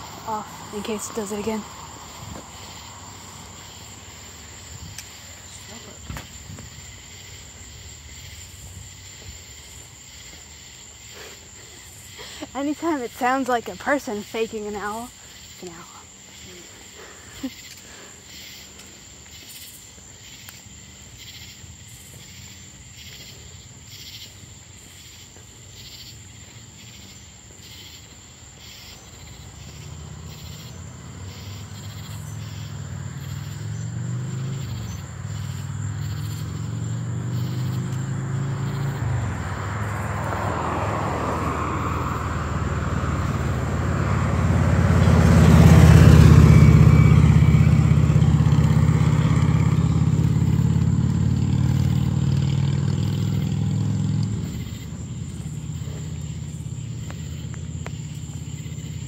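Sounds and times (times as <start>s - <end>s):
vehicle passing by: 0.0s - 18.6s, 28.6s - 59.0s
crickets chirping: 0.0s - 59.0s.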